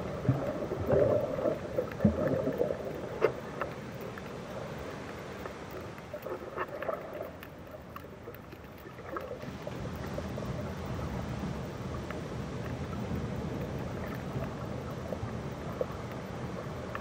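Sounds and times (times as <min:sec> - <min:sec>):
muffled underwater rumble: 0:00.0 - 0:17.0
water gurgles: 0:00.0 - 0:17.0.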